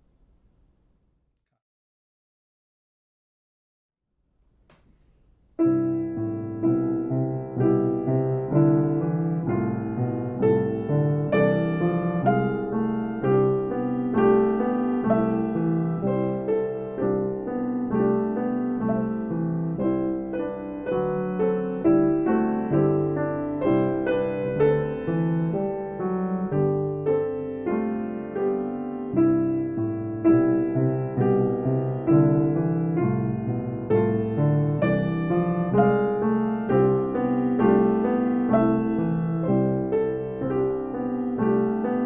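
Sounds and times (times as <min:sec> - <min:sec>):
piano music: 0:05.5 - 0:42.0.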